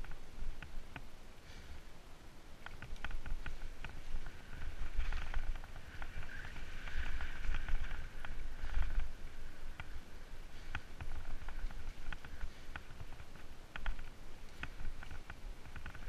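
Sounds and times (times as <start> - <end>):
bike ticking and rattling: 0.0 - 1.8, 2.6 - 16.0
bike tyres through dry leaves: 0.0 - 16.0
low rumble of wind: 0.0 - 16.0.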